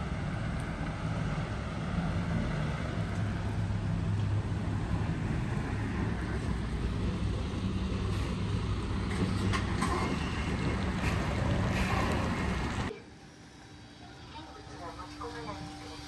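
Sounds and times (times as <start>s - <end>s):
diesel coach engine humming: 0.0s - 16.0s.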